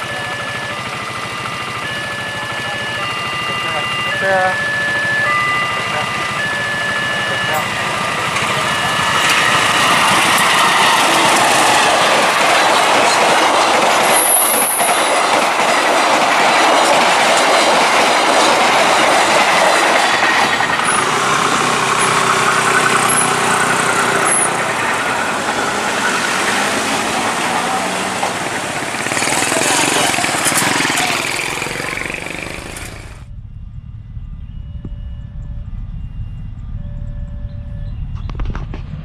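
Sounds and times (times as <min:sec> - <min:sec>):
train wheels rumbling on rails: 0:00.0 - 0:33.4
high squeal: 0:00.1 - 0:33.2.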